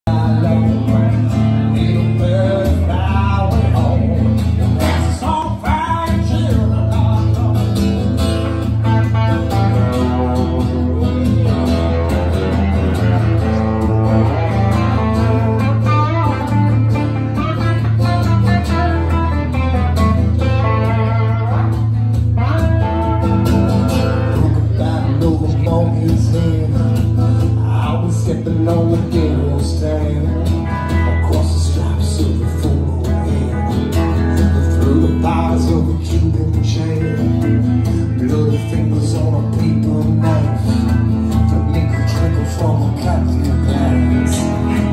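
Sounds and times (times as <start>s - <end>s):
man singing: 0.0s - 44.9s
acoustic guitar strumming: 0.1s - 44.9s
electric guitar playing: 0.1s - 44.9s.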